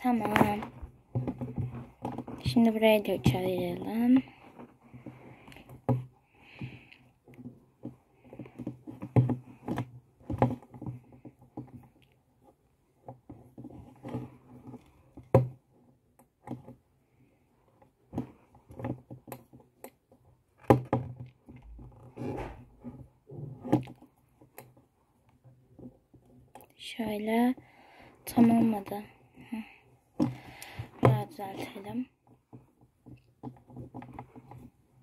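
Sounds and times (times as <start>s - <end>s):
fingers braiding doll hair: 0.0s - 35.0s.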